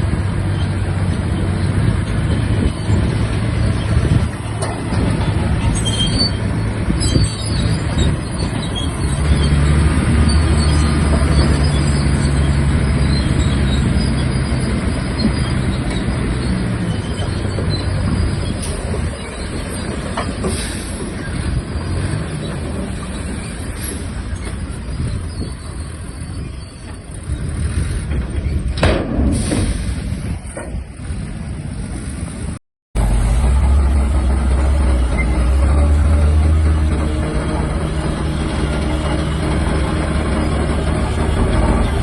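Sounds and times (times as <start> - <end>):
bulldozer engine droning: 0.0 - 42.0
steel tracks clattering: 0.0 - 42.0.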